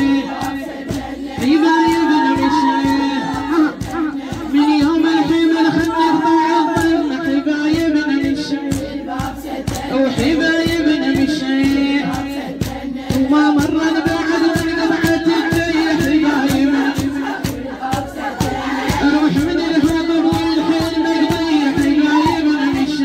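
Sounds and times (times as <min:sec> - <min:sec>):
group chanting together: 0:00.0 - 0:23.0.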